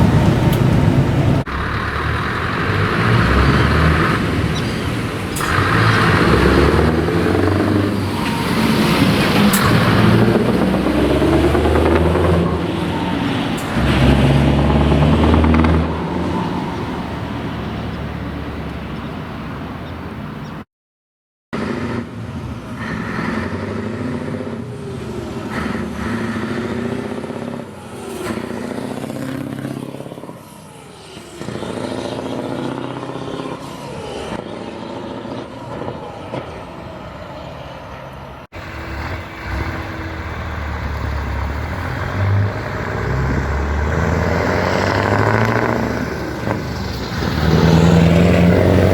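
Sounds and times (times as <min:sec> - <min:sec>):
truck engines revving: 0:00.0 - 0:20.6, 0:21.6 - 0:48.9.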